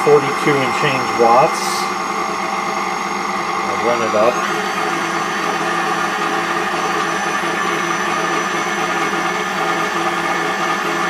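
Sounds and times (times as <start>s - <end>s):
stand mixer motor running: 0.0s - 11.0s.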